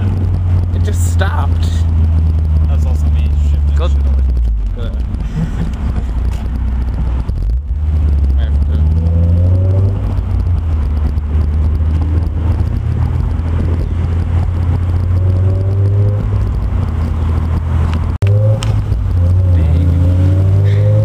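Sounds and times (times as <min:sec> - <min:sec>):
car engine droning and accelerating: 0:00.0 - 0:21.0.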